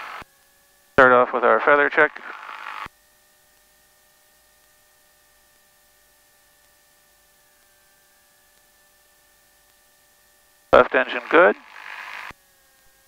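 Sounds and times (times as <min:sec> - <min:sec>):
faint electrical whine: 0:00.0 - 0:13.0.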